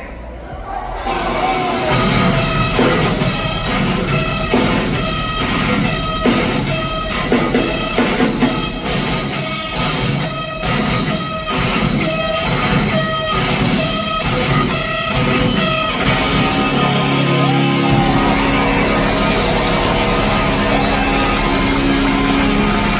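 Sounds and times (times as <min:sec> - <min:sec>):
drum kit pounding: 0:00.5 - 0:22.9
distorted electric guitars: 0:01.0 - 0:22.9.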